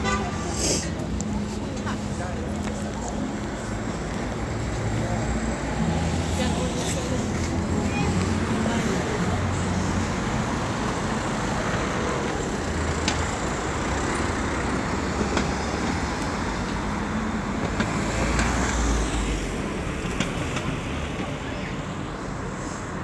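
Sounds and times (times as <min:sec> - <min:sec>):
low engine rumble: 0:00.0 - 0:23.0
vehicles passing: 0:00.0 - 0:23.0.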